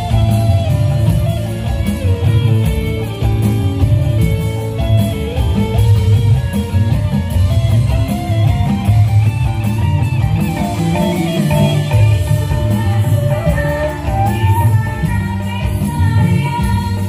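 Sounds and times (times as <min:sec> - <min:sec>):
electric guitar melody: 0:00.0 - 0:17.0
live band playing: 0:00.0 - 0:17.0.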